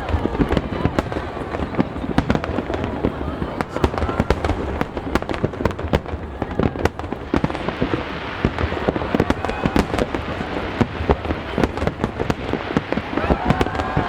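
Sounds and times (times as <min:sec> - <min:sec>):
fireworks bangs and cracks: 0:00.0 - 0:14.0.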